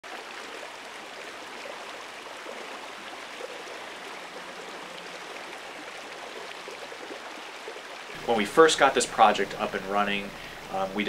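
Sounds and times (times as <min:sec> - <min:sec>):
stream water babbling: 0:00.0 - 0:11.0.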